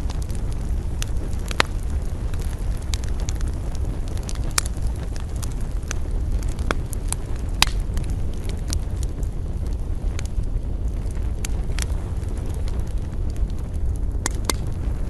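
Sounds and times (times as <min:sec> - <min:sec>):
campfire crackling and popping: 0:00.0 - 0:15.0
low rumble of wind: 0:00.0 - 0:15.0.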